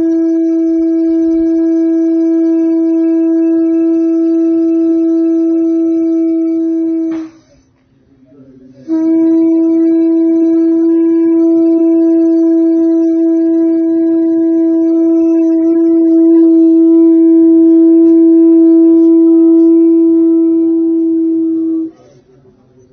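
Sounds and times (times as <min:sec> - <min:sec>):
conch shell horn note: 0:00.0 - 0:07.6, 0:08.8 - 0:22.2.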